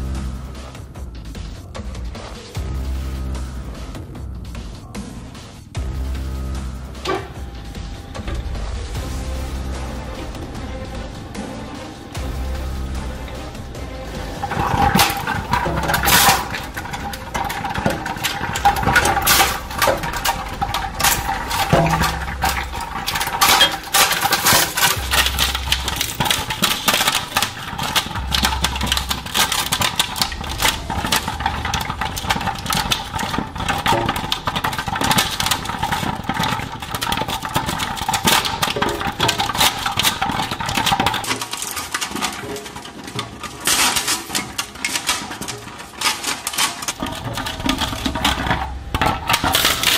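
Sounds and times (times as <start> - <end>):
plastic cracking and crunching: 8.0 - 49.9.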